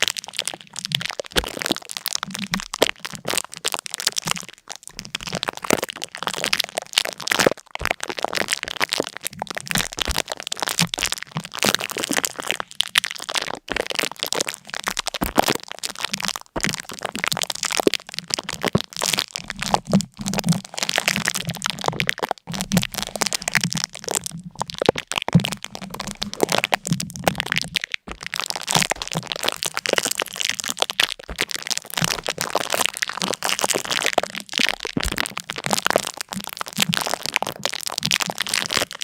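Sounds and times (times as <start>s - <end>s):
dense crackling and crunching: 0.0s - 39.0s.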